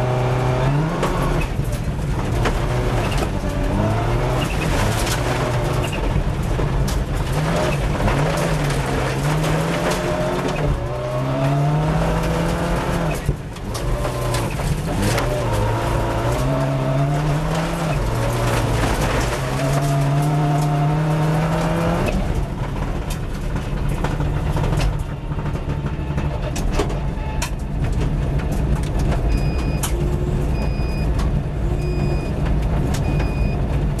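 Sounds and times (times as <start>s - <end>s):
gravel striking car: 0.0s - 34.0s
rally car engine revving: 0.0s - 34.0s.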